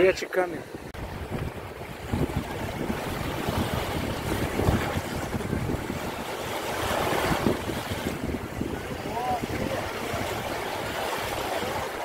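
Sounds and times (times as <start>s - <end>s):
small waves washing ashore: 0.0s - 12.0s
wind buffeting microphone: 0.0s - 12.0s.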